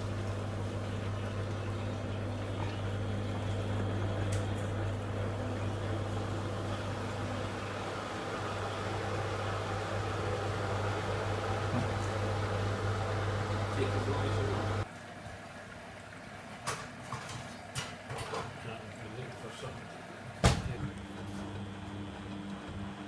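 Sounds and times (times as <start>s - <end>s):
washing machine drum running: 0.0s - 14.9s, 16.6s - 23.0s.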